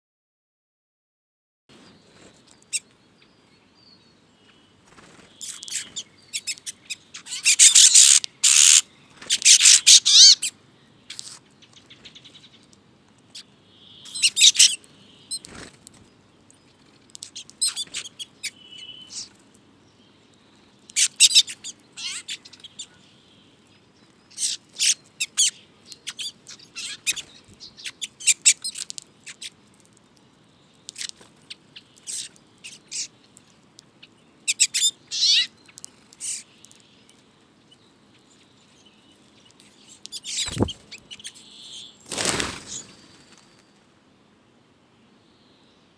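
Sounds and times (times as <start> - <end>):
finches calling and chirping: 1.9 - 43.7.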